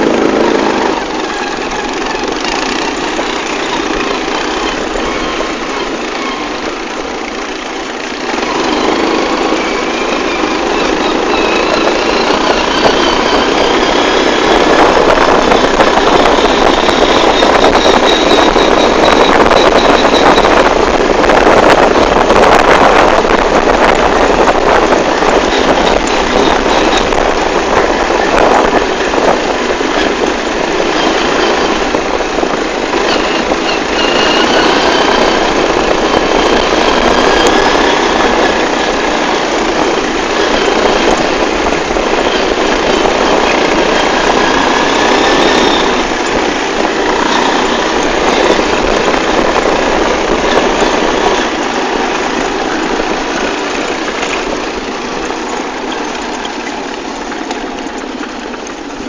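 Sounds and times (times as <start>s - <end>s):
quad bike engines running: 0.0s - 59.0s.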